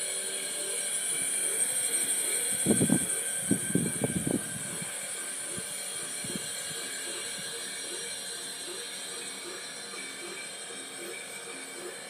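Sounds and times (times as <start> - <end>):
model railway mechanical hiss: 0.0 - 12.0.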